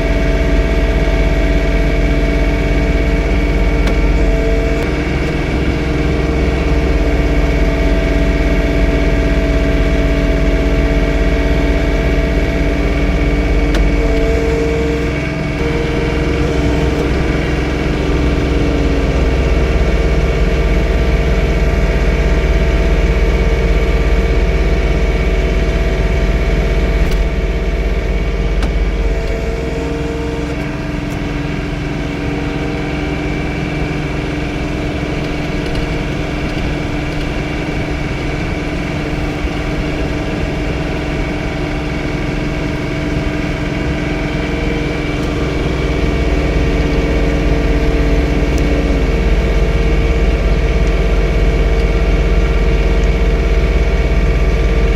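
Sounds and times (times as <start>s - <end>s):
tractor deep rumble: 0.0s - 54.9s
tractor engine whine: 0.0s - 54.9s.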